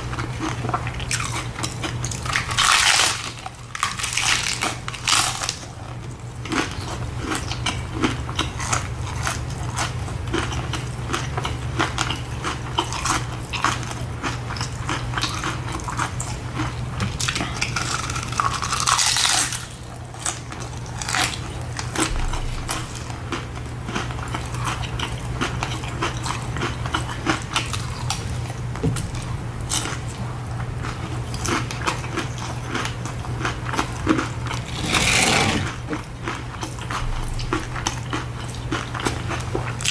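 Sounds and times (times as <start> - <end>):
person chewing food: 0.0 - 39.9
steady low hum: 0.0 - 39.9.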